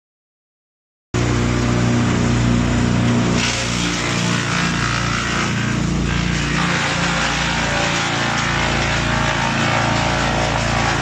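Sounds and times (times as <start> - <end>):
wood chipper engine running: 1.2 - 11.0.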